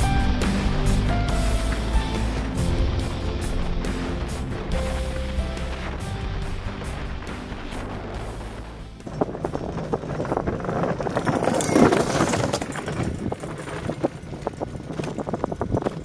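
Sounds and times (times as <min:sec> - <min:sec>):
iceboat runners rattling on ice: 0:00.0 - 0:16.0.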